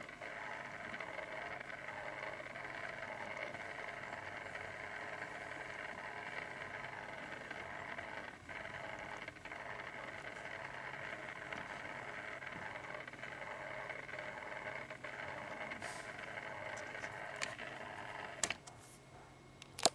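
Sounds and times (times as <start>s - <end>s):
small electric motor whirring: 0.0s - 18.5s.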